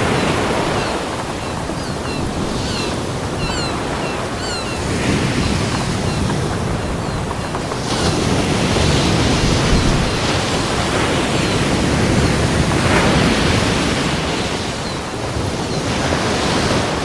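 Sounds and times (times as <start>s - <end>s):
ocean waves on beach: 0.0s - 17.0s.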